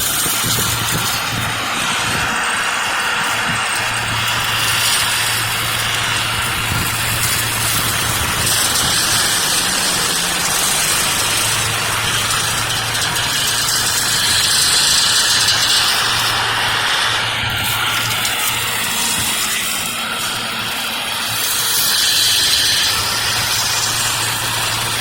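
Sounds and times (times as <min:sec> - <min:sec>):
loud rushing noise: 0:00.0 - 0:25.0
machine engine humming: 0:00.0 - 0:25.0.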